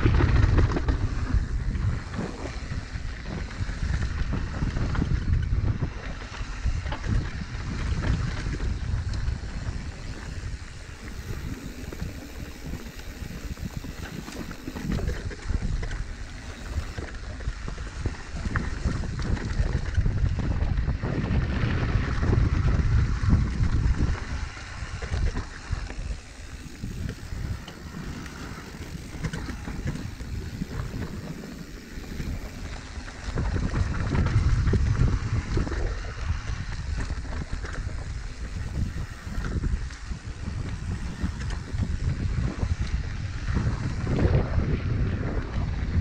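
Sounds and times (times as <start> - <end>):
bike rattling and knocking: 0.0 - 46.0
bike tyres rumbling on dirt: 0.0 - 46.0
wind buffeting microphone: 0.0 - 46.0.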